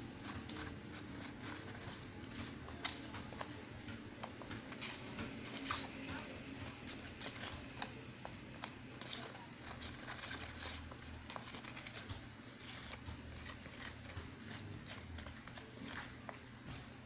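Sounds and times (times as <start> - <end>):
spoon stirring thick paste: 0.0 - 17.0.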